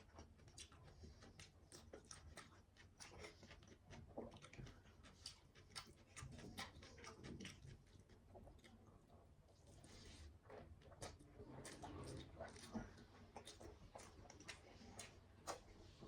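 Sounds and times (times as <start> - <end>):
person chewing with mouth clicks: 0.0 - 9.0, 10.5 - 15.8.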